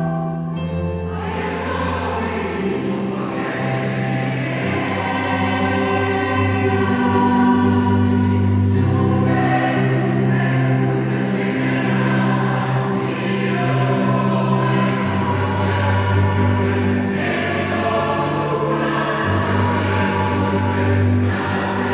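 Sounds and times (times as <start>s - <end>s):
choir singing in parts: 0.0s - 21.9s.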